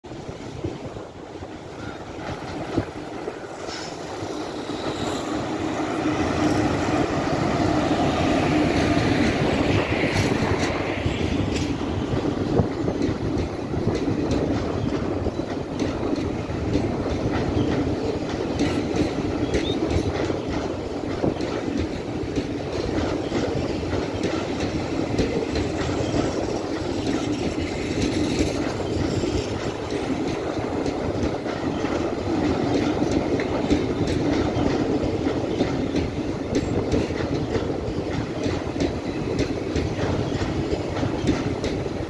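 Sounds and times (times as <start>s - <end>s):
train rumbling over bridge: 0.0s - 42.0s
wheels clattering over rail joints: 1.6s - 42.0s.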